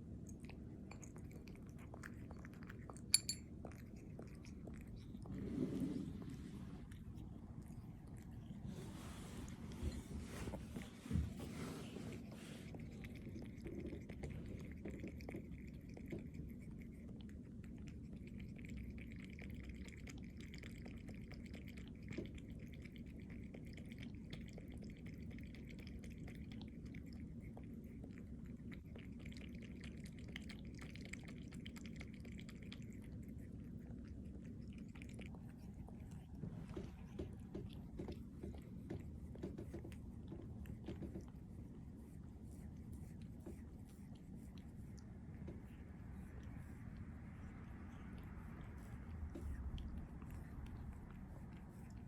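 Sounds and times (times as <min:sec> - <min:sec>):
steady low hum: 0:00.0 - 0:21.8, 0:22.4 - 0:52.0
cat chewing and biting: 0:00.0 - 0:52.0.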